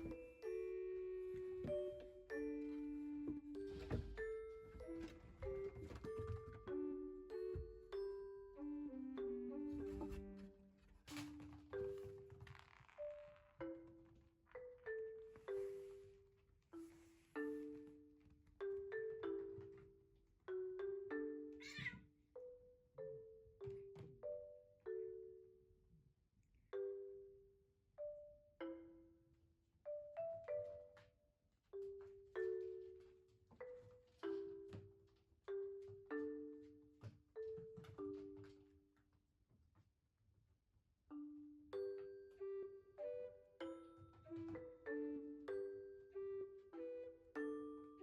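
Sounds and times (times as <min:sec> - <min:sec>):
gentle marimba-like music: 0:00.0 - 0:21.8, 0:22.4 - 0:25.7, 0:26.7 - 0:38.7, 0:41.1 - 0:48.0.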